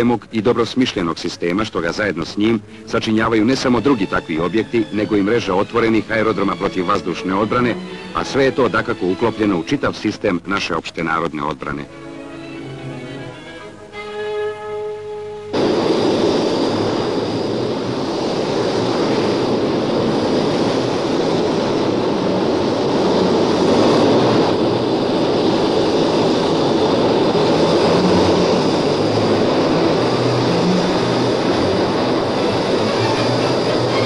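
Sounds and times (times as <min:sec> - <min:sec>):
jet engine rushing with whine: 0:00.0 - 0:14.1, 0:15.3 - 0:34.0.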